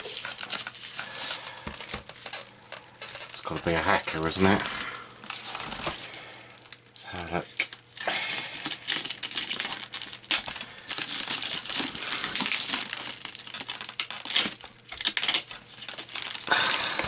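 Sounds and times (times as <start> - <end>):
plastic shrink wrap crinkling: 0.0 - 17.0.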